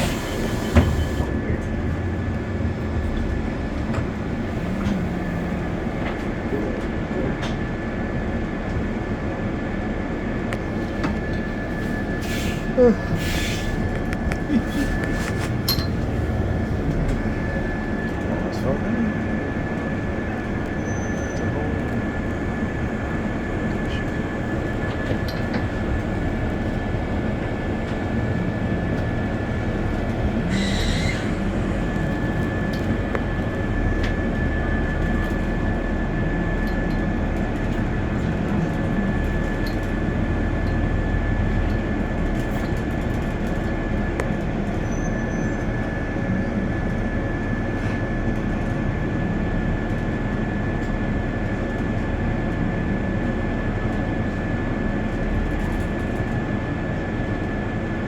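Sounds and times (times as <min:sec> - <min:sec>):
vehicle low rumble: 0:00.0 - 0:58.0.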